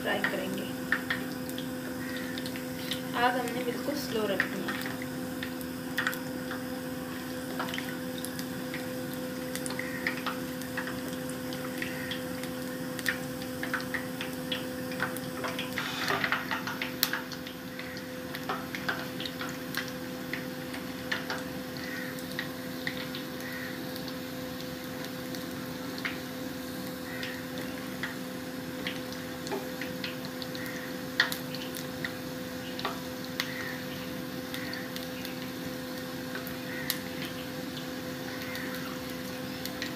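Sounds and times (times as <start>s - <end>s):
oil bubbling and crackling: 0.0s - 39.9s
steady low hum: 0.0s - 39.9s.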